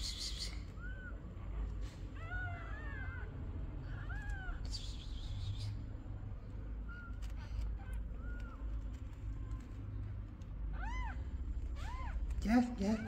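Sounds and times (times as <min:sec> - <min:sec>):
newborn kittens mewing: 0:00.0 - 0:13.0.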